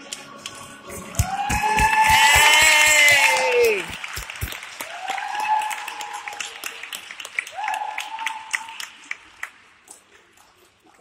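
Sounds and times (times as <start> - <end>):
audience clapping: 0.0 - 10.1.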